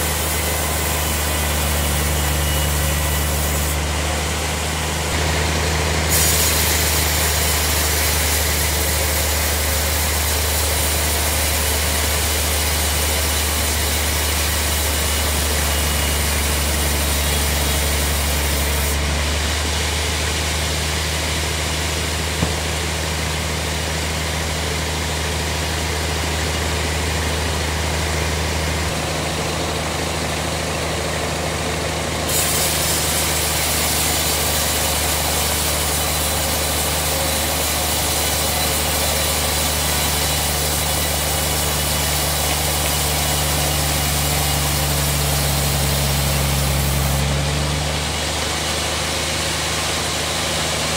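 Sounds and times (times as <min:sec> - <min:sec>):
band saw cutting a log: 0:00.0 - 0:50.9.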